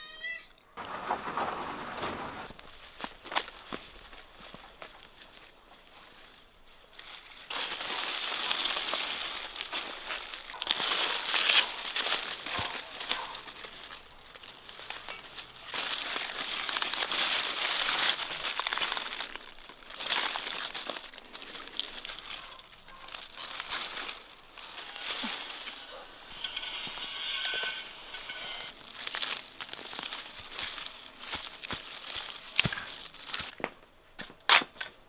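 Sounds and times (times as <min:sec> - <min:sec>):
soil crumbling: 0:00.8 - 0:06.3, 0:06.9 - 0:34.3
leaves and stalks rustling: 0:00.8 - 0:33.7.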